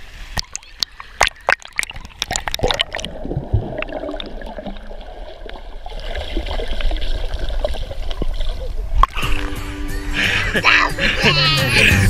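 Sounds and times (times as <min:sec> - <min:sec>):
water splashing against camera: 0:00.0 - 0:09.7.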